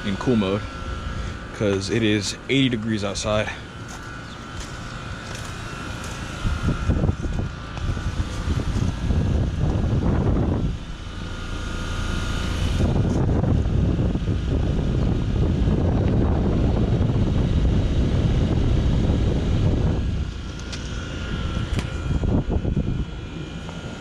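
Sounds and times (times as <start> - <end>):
faint steady whine: 0.0 - 24.0
heat pump unit droning: 0.0 - 24.0
wind buffeting microphone: 3.1 - 24.0.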